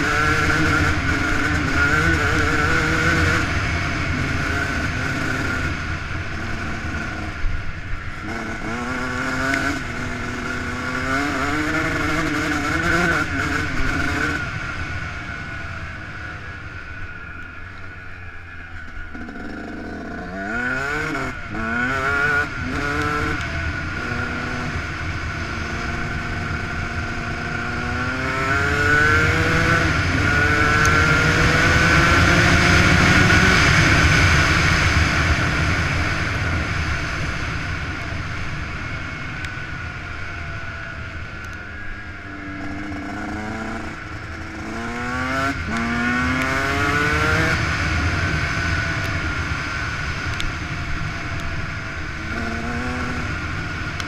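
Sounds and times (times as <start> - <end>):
two-stroke motorcycle engine revving: 0.0 - 16.8, 18.8 - 54.0.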